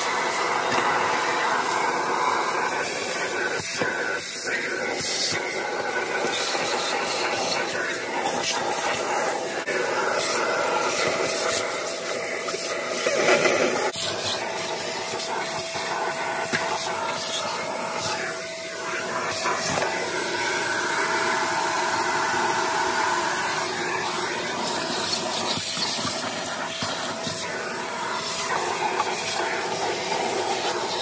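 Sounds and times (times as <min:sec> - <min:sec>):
vacuum cleaner sucking debris: 0:00.0 - 0:31.0.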